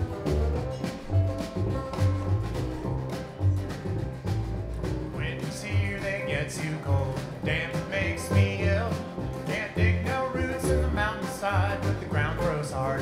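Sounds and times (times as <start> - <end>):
acoustic guitar: 0.0 - 13.0
mandolin: 0.0 - 13.0
upright bass: 0.0 - 13.0.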